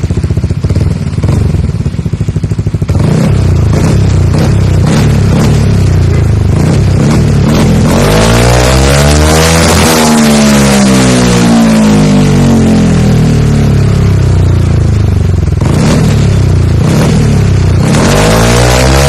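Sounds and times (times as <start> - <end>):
scooter engine revving: 0.0 - 19.0.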